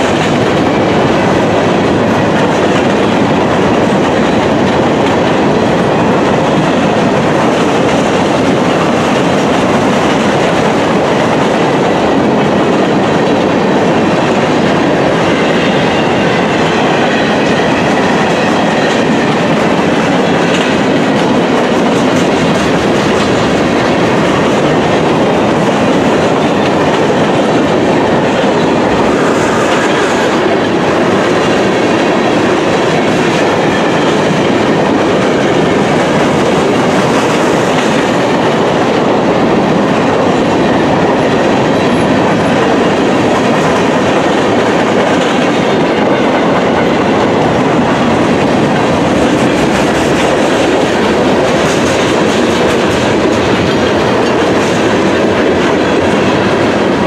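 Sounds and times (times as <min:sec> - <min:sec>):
train wheels rolling on rails: 0:00.0 - 0:57.0.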